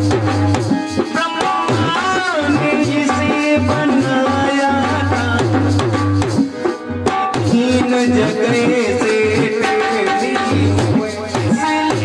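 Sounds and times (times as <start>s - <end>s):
instrumental accompaniment: 0.0s - 12.0s
tabla beat: 0.0s - 12.0s
man singing devotional song: 0.8s - 6.0s, 7.3s - 12.0s.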